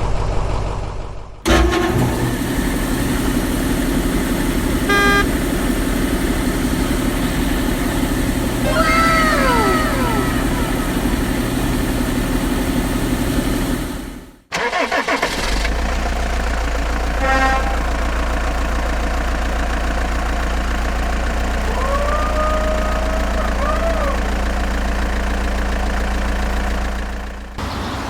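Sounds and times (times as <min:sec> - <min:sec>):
deeper engine hum: 0:00.0 - 0:14.5, 0:15.6 - 0:28.0
vehicle engine running: 0:00.0 - 0:14.5, 0:15.3 - 0:28.0.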